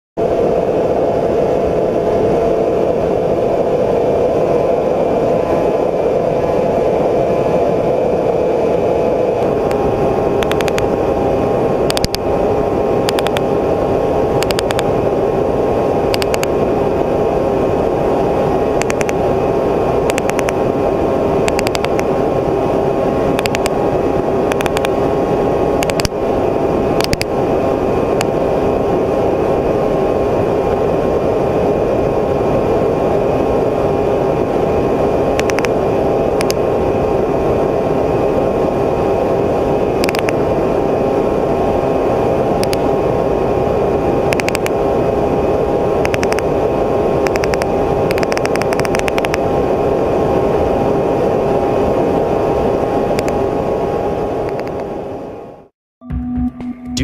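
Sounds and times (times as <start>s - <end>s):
drone propellers humming: 0.2s - 55.7s.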